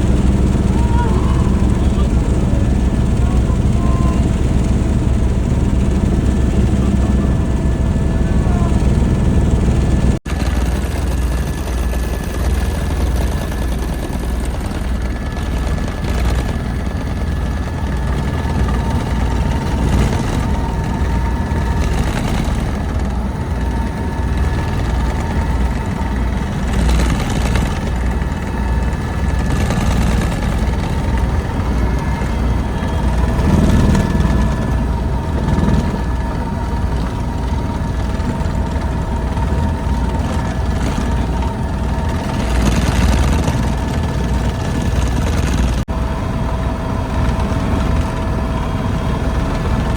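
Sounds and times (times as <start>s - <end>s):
helicopter in flight: 0.0s - 49.9s.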